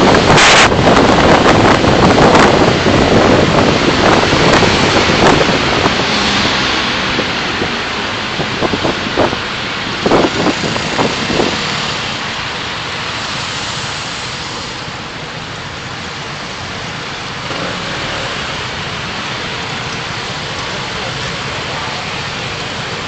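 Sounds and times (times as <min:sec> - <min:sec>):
car road noise: 0:00.0 - 0:23.0.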